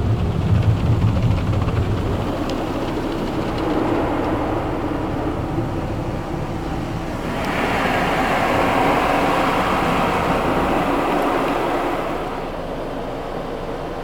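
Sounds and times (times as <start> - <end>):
water spraying onto car: 2.2 - 14.0.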